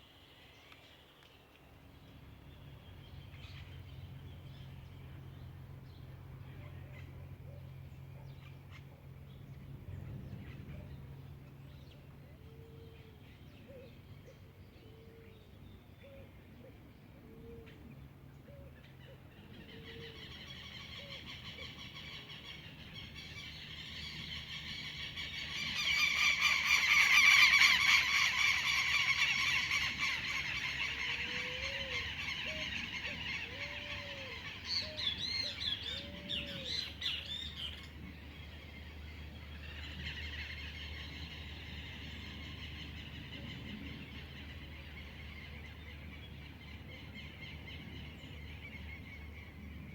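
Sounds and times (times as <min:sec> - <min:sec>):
birds chattering chorus: 0:00.0 - 0:49.9.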